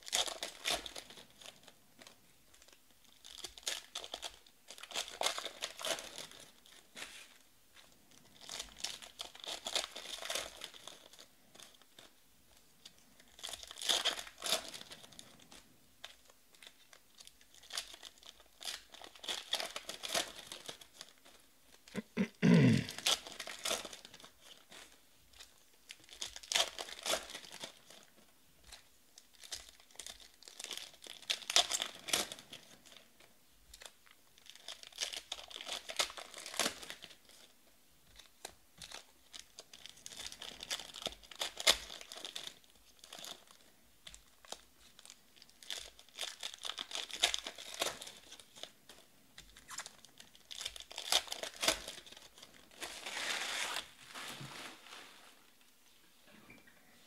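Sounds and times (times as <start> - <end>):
foil wrappers tearing and crinkling: 0.0 - 12.1, 12.9 - 33.0, 33.7 - 37.5, 38.1 - 55.5.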